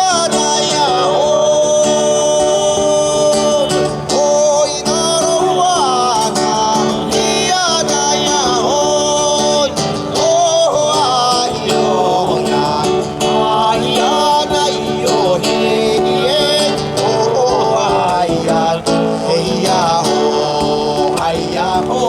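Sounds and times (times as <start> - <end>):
person singing: 0.0 - 22.0
plucked guitar strings: 0.0 - 22.0.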